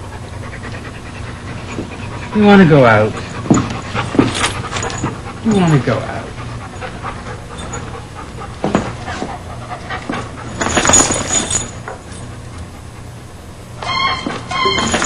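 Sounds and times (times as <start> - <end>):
dog panting: 0.0 - 15.0
steady low hum: 0.0 - 15.0.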